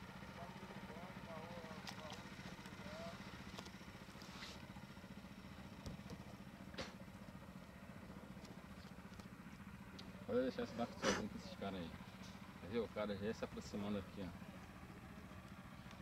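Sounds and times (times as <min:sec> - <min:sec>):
small outboard motor running: 0:00.0 - 0:16.0.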